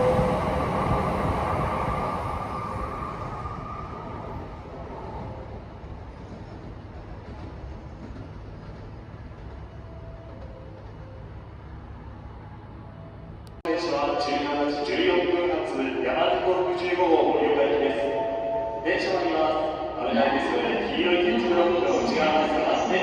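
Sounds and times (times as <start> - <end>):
train pulling away: 0.0 - 23.0.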